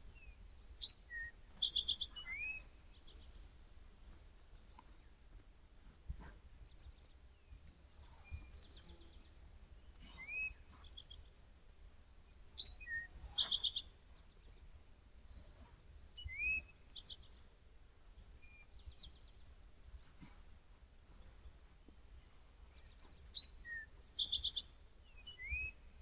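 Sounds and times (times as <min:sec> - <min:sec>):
songbird singing: 0:00.0 - 0:03.6, 0:06.2 - 0:15.5, 0:16.1 - 0:20.3, 0:21.1 - 0:26.0.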